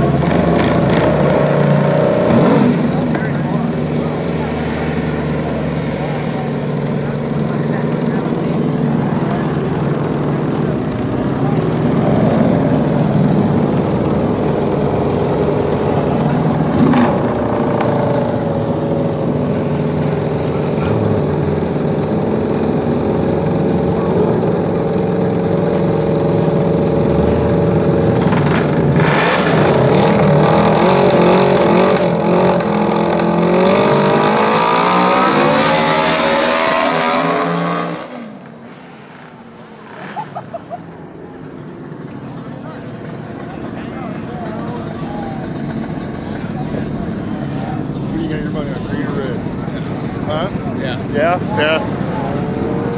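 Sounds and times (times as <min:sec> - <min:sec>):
lawn mower engines revving: 0:00.0 - 0:52.9.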